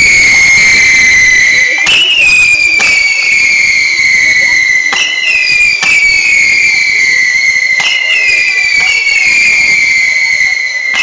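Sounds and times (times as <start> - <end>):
fireworks bangs: 0.0 - 11.0
high firework whistle: 0.0 - 11.0.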